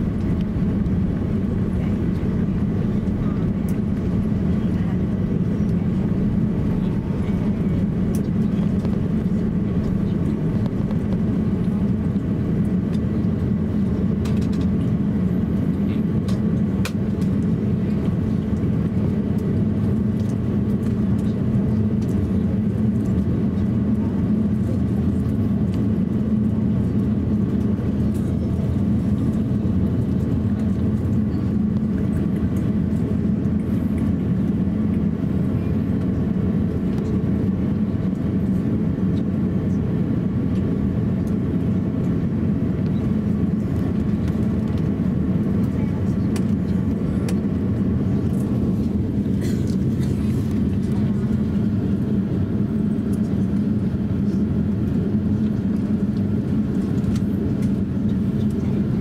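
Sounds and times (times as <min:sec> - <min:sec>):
airplane cabin hum: 0:00.0 - 0:59.0.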